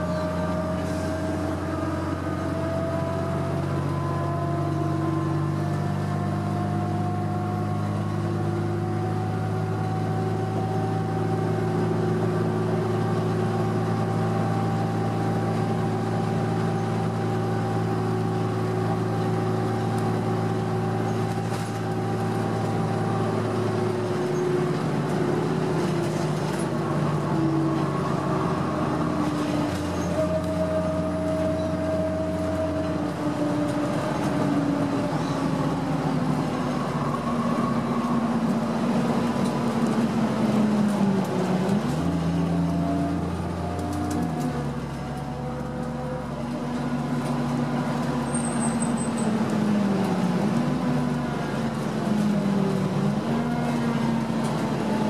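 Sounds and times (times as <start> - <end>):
bus diesel engine hum: 0.0 - 55.0
road noise: 0.0 - 55.0.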